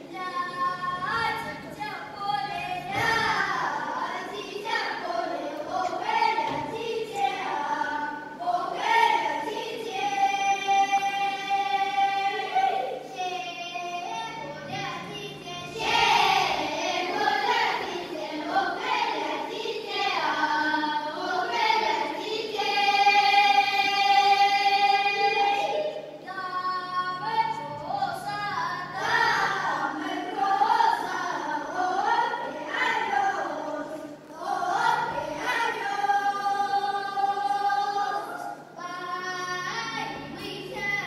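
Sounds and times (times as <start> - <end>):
children's choir singing folk song: 0.0 - 41.0.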